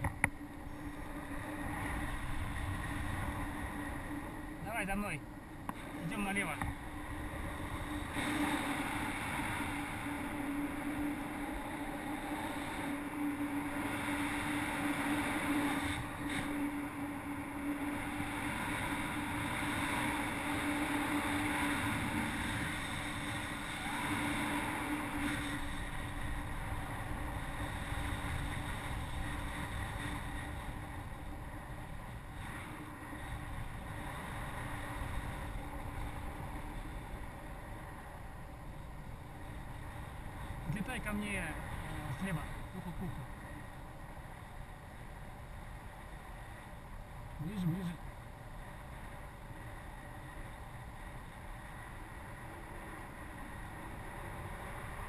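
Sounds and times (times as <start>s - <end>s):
wind rush on microphone: 0.0s - 44.3s
low steady hum: 0.0s - 55.0s.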